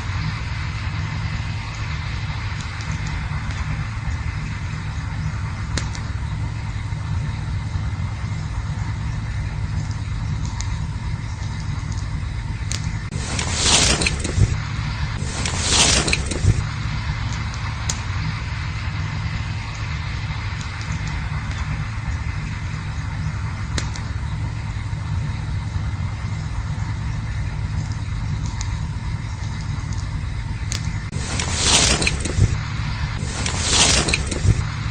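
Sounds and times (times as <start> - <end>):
fire crackling pops: 0.0 - 34.9
fire hissing surge: 0.0 - 34.9
low rumble of campfire: 0.0 - 34.9.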